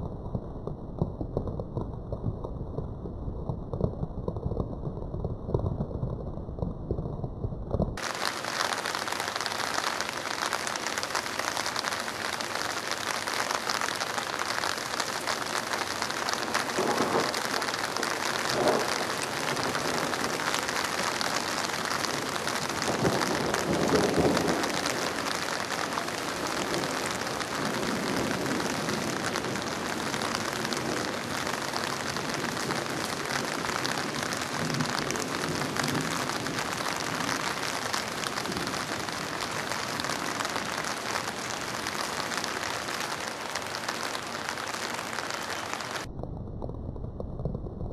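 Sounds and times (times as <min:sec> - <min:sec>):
heavy rain falling: 0:03.5 - 0:46.1.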